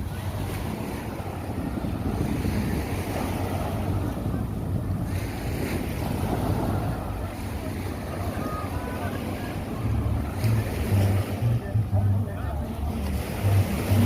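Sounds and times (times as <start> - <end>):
sea surf washing onto beach: 0.0 - 14.0
wind rumbling on microphone: 0.0 - 14.0.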